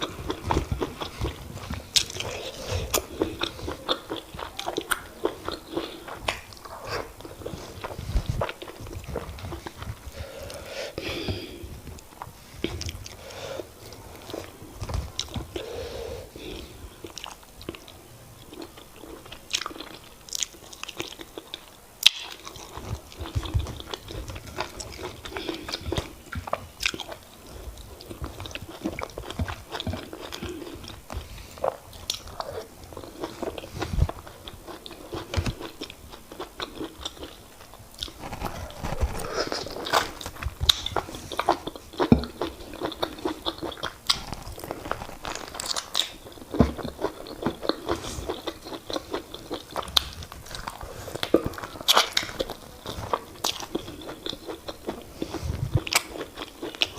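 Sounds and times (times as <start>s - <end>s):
chewing and mouth sounds: 0.0s - 13.2s, 16.5s - 56.9s.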